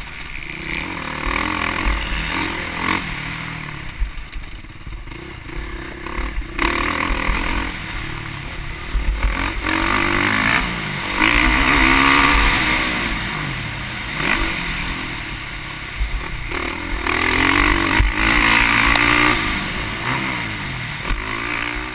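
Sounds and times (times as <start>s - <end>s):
motocross bike engine revving: 0.0s - 21.9s.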